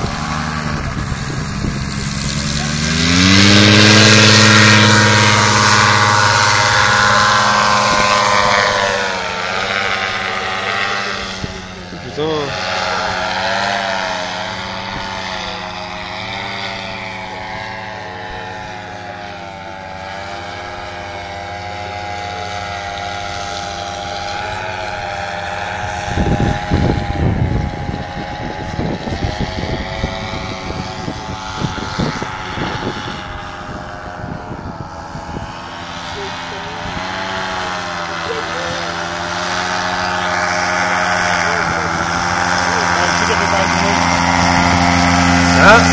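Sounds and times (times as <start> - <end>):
wind buffeting microphone: 0.0 - 17.8, 24.0 - 45.9
paramotor engine droning overhead: 0.0 - 45.9.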